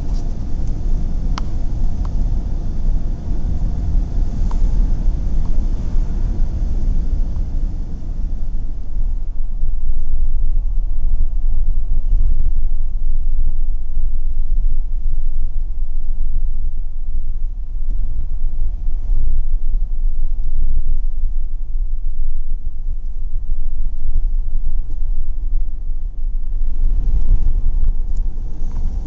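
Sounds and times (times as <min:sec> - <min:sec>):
car driving heard from inside: 0:00.0 - 0:29.0.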